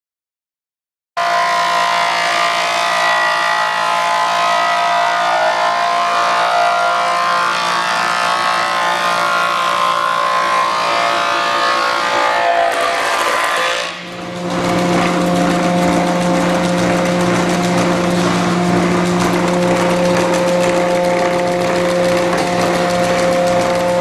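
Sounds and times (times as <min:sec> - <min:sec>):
wood planer machine hum: 0:01.2 - 0:24.0.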